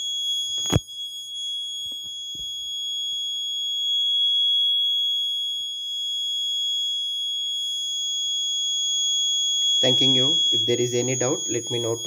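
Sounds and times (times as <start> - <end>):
piezo buzzer high-pitched tone: 0.0 - 12.0.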